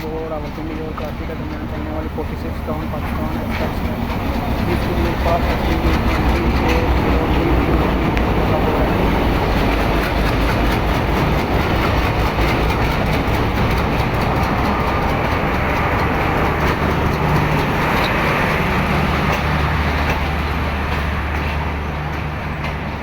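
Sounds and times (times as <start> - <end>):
steady low drone: 0.0 - 22.0
train rumbling: 0.0 - 23.0
wheels clicking over rail joints: 0.0 - 23.0.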